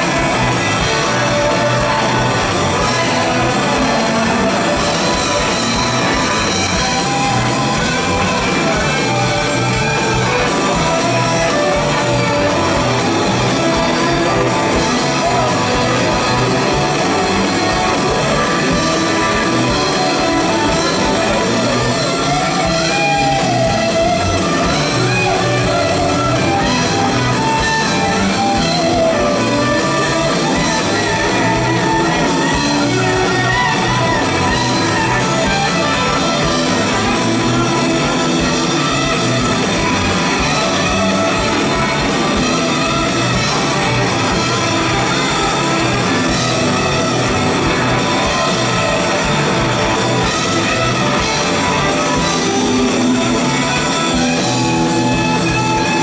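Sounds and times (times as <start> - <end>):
drum kit: 0.0 - 56.0
electric bass guitar: 0.0 - 56.0
electric guitars: 0.0 - 56.0.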